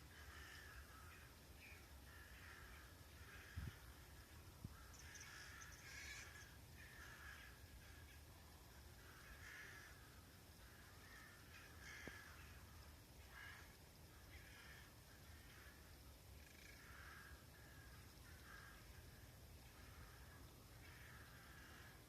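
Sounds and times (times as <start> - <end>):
distant crow flock calling: 0.0 - 22.0.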